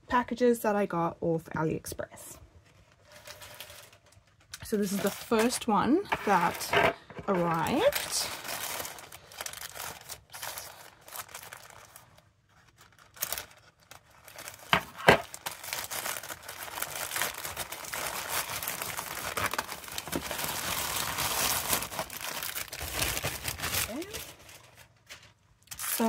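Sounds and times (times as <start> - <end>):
plastic crinkling and rustling: 2.6 - 26.0.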